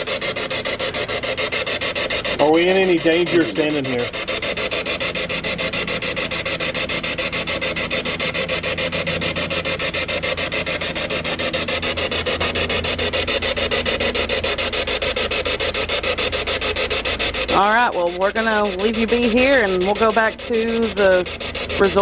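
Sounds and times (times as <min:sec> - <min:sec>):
rapid chopping radio static: 0:00.2 - 0:22.0.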